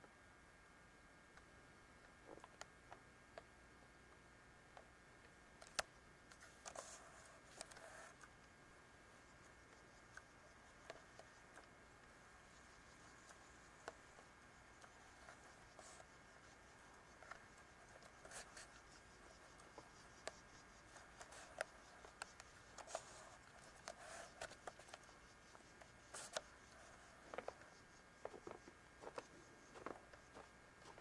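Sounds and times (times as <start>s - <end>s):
faint steady whine: 0.0s - 31.0s
faint scattered clicks: 1.3s - 31.0s.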